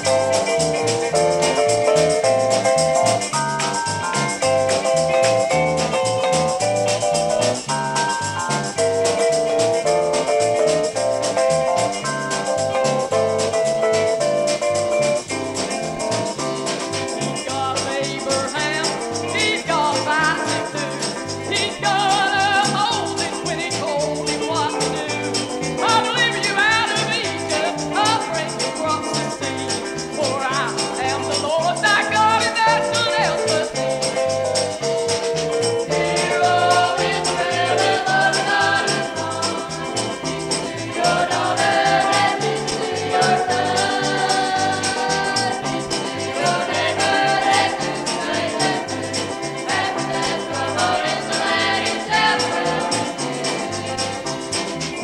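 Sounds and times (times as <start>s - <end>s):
gospel song with vibrato singing: 0.0s - 55.0s
repeating bass line: 0.0s - 55.0s.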